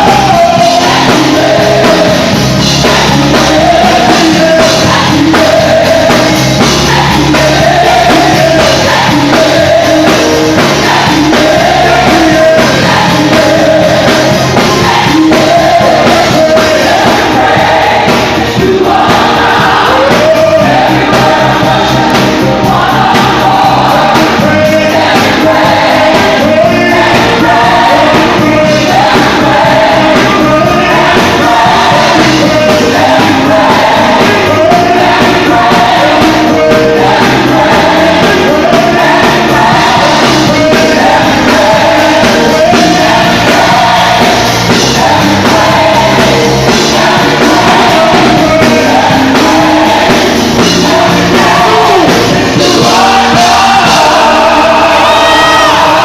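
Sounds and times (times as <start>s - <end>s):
band with drums: 0.0s - 56.0s
choir and lead singer singing: 0.0s - 56.0s.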